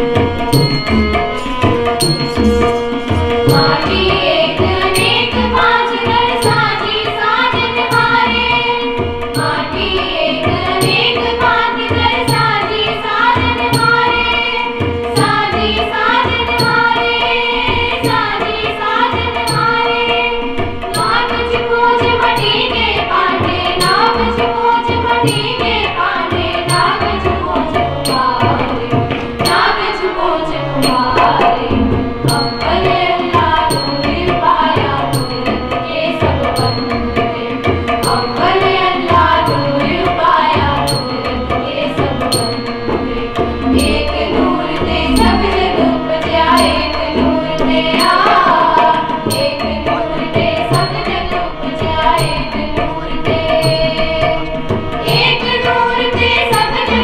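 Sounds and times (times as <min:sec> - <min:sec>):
tabla playing steady rhythm: 0:00.0 - 0:57.0
girls singing a hymn: 0:02.5 - 0:57.0.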